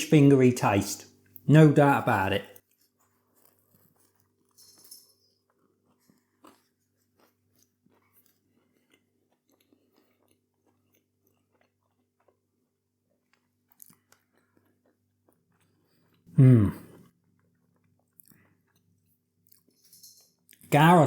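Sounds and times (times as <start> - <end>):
chewing with crunches: 2.5 - 4.6, 5.2 - 20.7.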